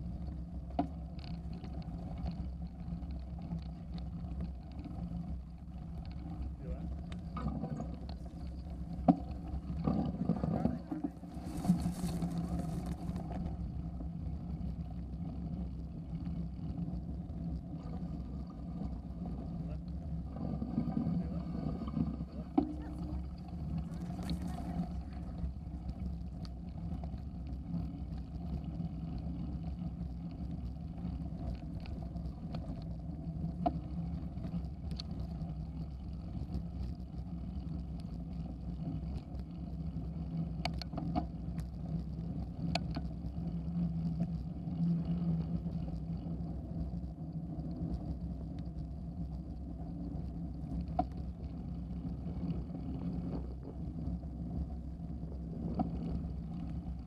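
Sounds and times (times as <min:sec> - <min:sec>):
bicycle tyres rolling on gravel: 0:00.0 - 0:20.6, 0:22.2 - 0:57.0.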